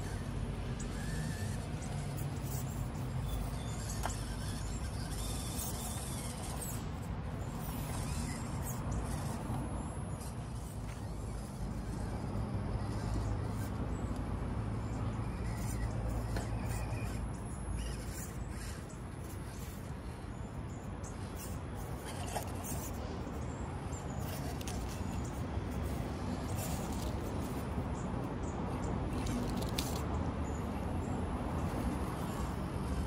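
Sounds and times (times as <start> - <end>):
electric drivetrain humming: 0.0 - 33.0.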